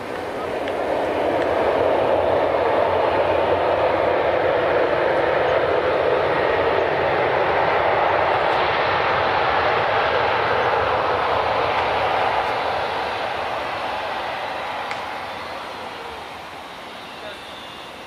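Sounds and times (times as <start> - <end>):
jet engine rushing: 0.0 - 18.0.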